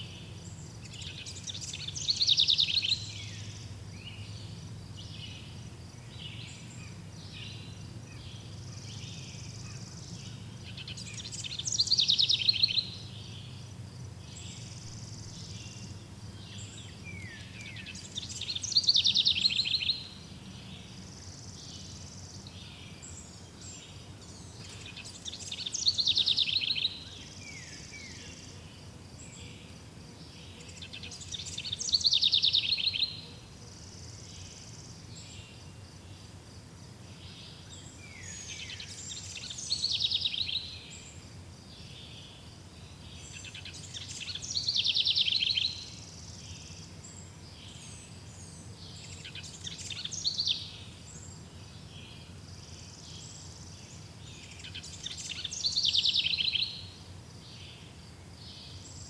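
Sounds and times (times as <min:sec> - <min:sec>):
songbird singing short phrase: 0:00.0 - 0:29.7, 0:30.3 - 0:36.2, 0:37.1 - 0:59.0
faint background birds: 0:00.0 - 0:59.0
insects: 0:00.0 - 0:59.0.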